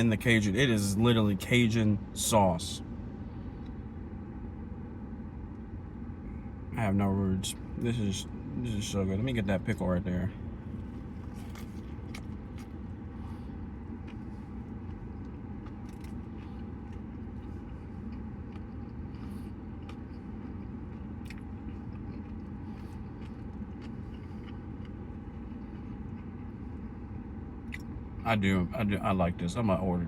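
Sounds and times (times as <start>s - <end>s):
car interior engine rumble: 0.0s - 30.0s.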